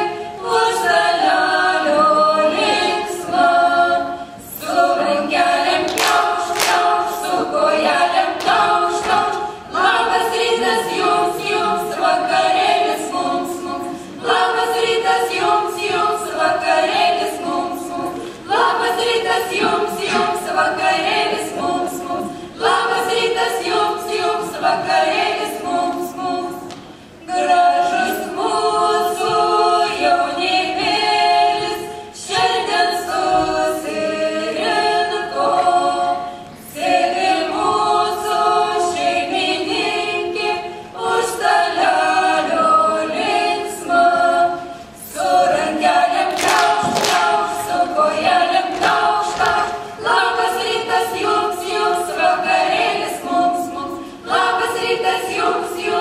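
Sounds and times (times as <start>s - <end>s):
children singing unaccompanied: 0.0s - 56.0s.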